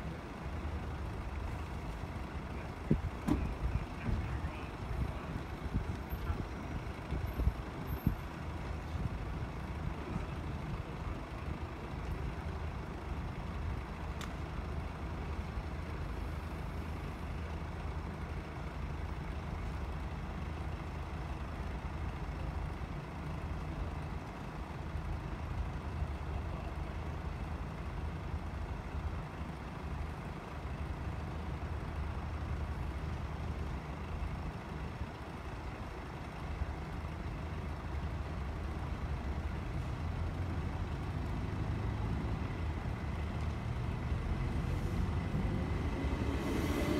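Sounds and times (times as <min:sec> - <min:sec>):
vehicles idling: 0:00.0 - 0:46.9.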